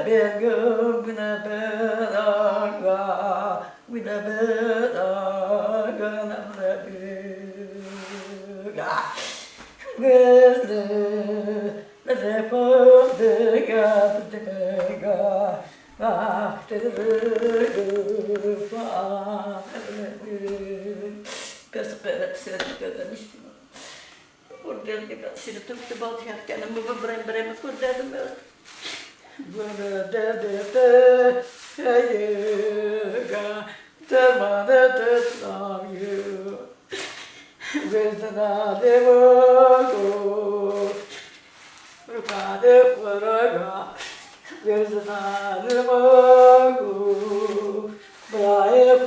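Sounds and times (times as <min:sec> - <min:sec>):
woman singing unaccompanied lament: 0:00.0 - 0:23.6, 0:24.5 - 0:28.5, 0:29.3 - 0:49.0.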